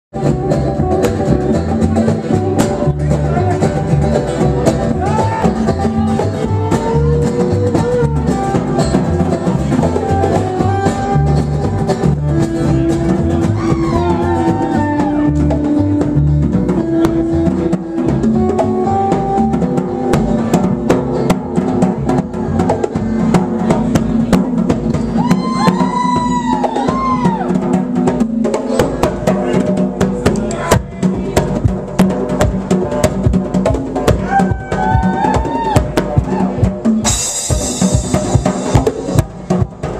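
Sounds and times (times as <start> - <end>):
drum kit: 0.1 - 39.9
guitar lead with bending notes: 0.1 - 39.9
upright bass: 0.1 - 39.9.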